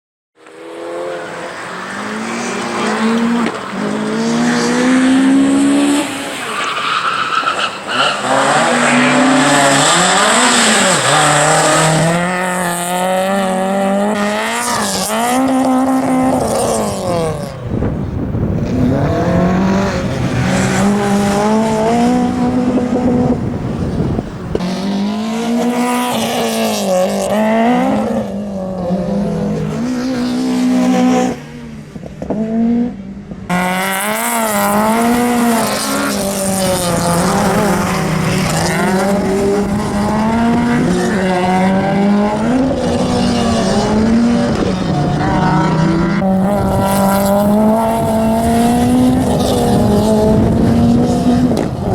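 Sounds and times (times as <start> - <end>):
car engine revving hard: 7.9 - 17.8, 18.4 - 31.4, 32.3 - 51.9.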